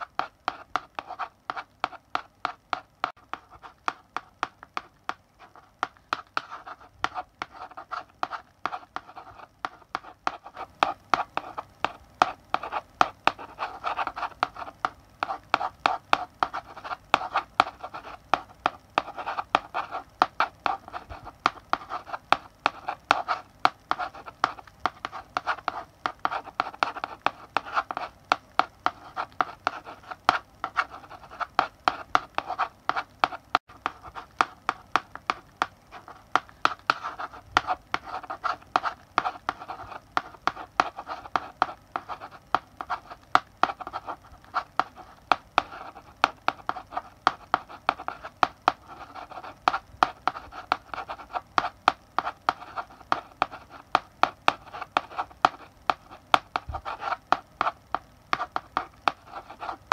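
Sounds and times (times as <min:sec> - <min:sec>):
chalk writing on blackboard: 0:00.0 - 0:59.9.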